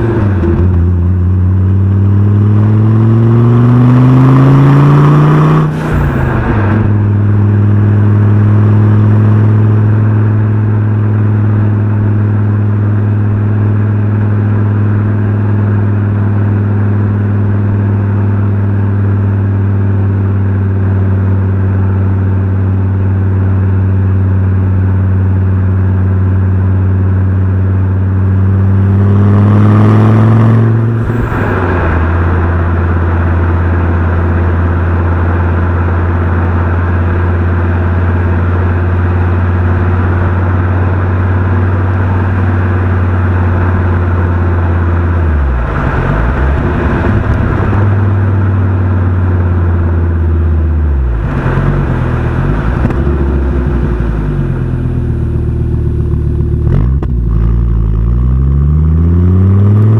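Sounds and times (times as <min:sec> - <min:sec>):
car engine revving: 0:00.0 - 0:22.1, 0:25.6 - 0:59.9.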